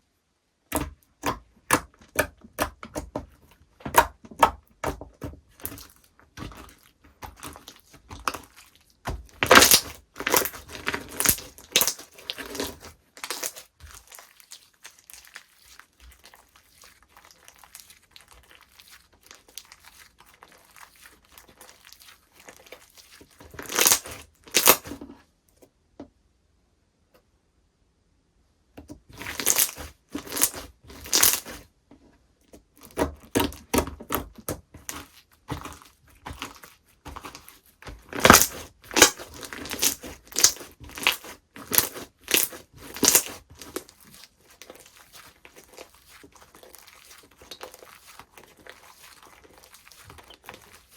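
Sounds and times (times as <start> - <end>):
slime crackling and popping: 3.9 - 25.0, 29.1 - 31.6, 32.8 - 50.9.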